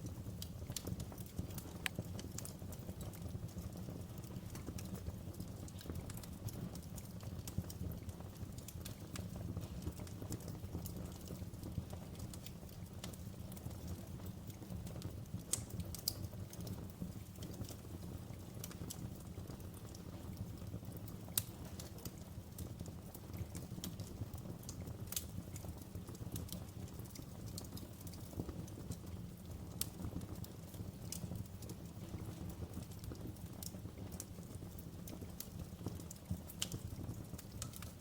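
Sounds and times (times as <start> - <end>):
low rumble of flames: 0.0 - 38.0
wood fire pops and snaps: 0.0 - 38.0.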